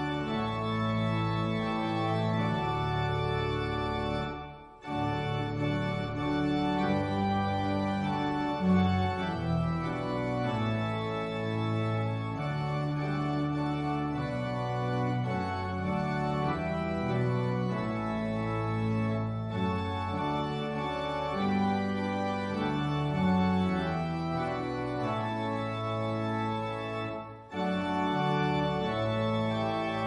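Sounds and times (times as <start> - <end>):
organ playing sustained chords: 0.0 - 30.0.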